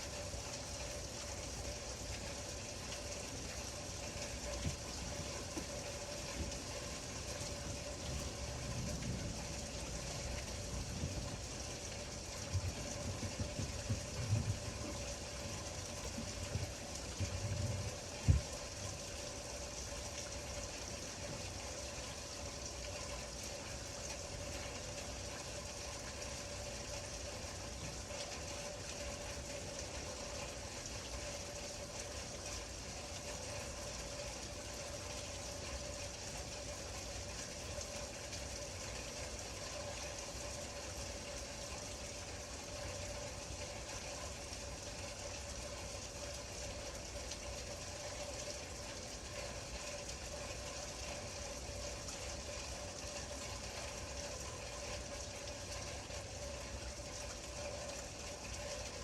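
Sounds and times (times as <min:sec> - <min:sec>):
faint steady hum: 0:00.0 - 0:59.0
rain falling: 0:00.0 - 0:59.0.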